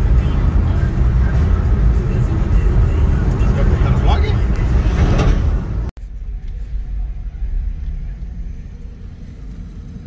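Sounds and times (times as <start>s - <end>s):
car driving slowly: 0.0s - 10.0s.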